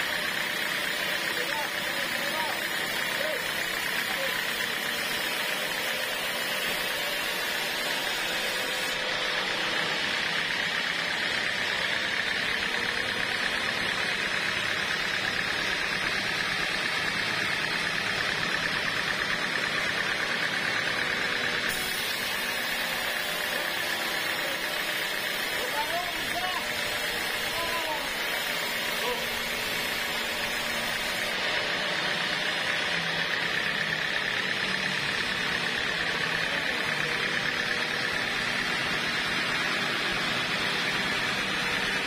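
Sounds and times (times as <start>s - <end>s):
band saw cutting wood: 0.0s - 42.0s.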